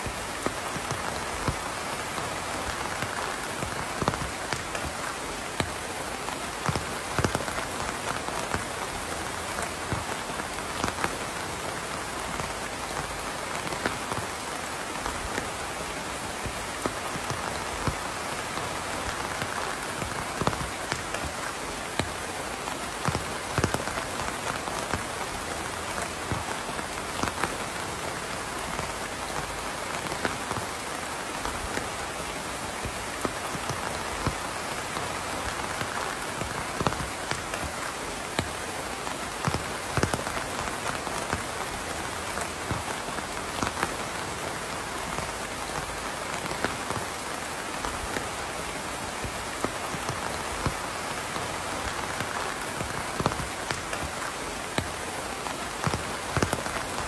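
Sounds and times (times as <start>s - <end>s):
rain falling: 0.0s - 57.0s
raindrops hitting close by: 0.0s - 57.0s.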